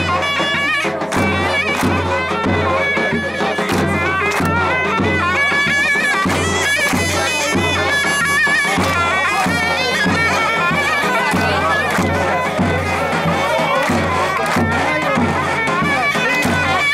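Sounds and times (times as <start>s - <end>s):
drum beat: 0.0s - 16.9s
shrill pipe melody: 0.0s - 16.9s.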